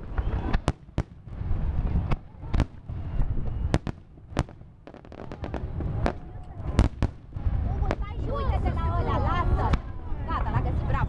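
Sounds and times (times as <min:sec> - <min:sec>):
low rumble from fireworks: 0:00.0 - 0:11.0.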